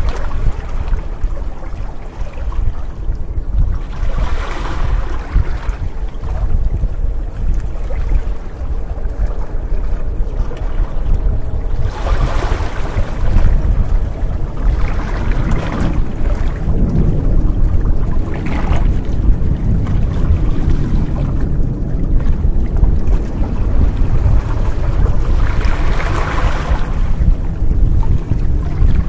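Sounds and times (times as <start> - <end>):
constant low rumble: 0.0 - 29.0
waves splashing against rocks: 0.0 - 29.0.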